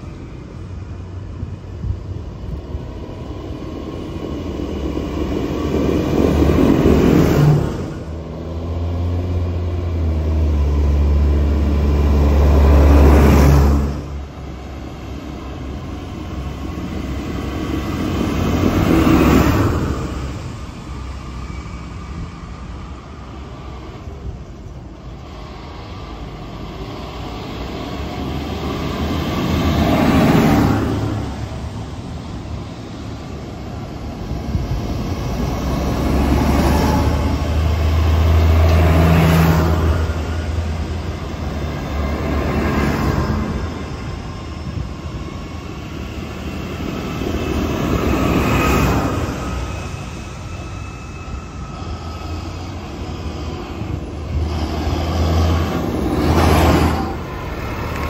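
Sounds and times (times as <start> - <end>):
diesel tractors driving past: 0.0 - 58.0.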